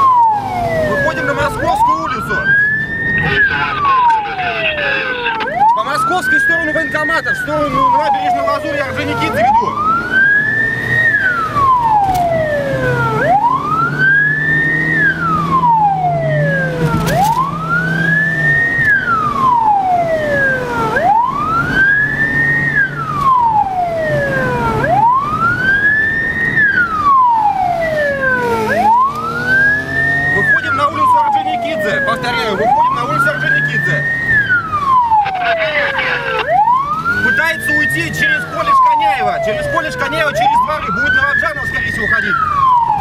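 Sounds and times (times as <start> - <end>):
police siren wailing: 0.0 - 43.0.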